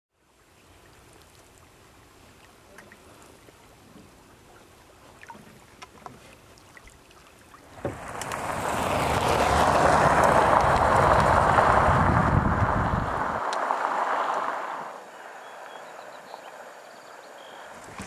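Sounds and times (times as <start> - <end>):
faint water sounds: 0.1 - 11.3, 13.5 - 18.0.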